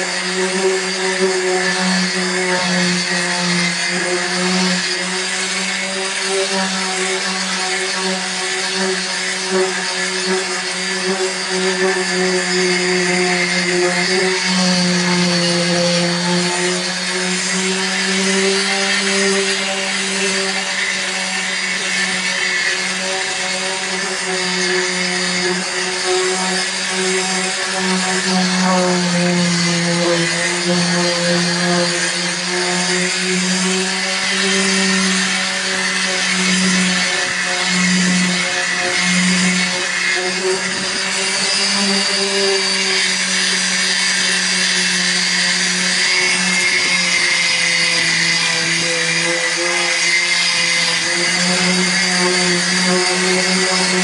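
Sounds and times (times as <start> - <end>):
electric sander running: 0.0 - 54.0.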